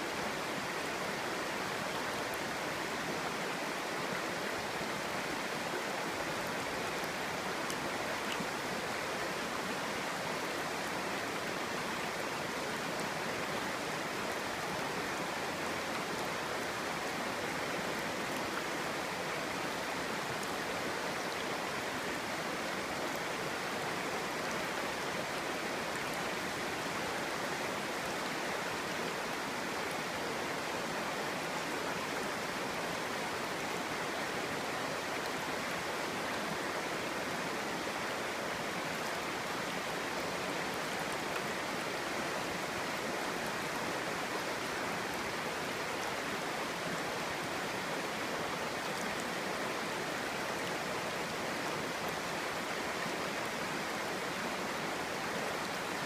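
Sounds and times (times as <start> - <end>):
mountain stream babbling: 0.0 - 56.0.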